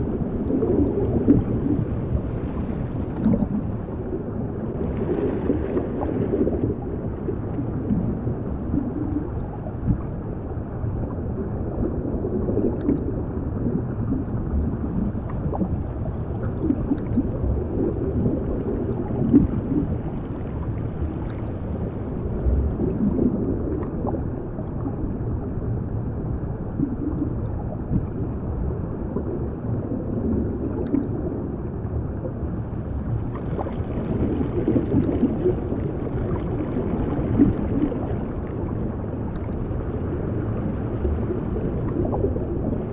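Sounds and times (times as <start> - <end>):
muffled underwater rumble: 0.0 - 42.9
water gurgling and bubbles: 0.0 - 42.9.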